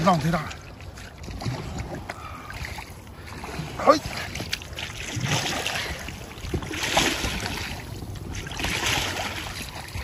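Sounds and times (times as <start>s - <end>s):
oars splashing in water: 0.0s - 10.0s.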